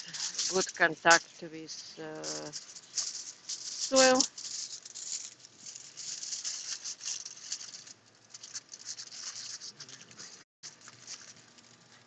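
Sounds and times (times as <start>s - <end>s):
crinkly wrapping crackling: 0.0s - 12.0s.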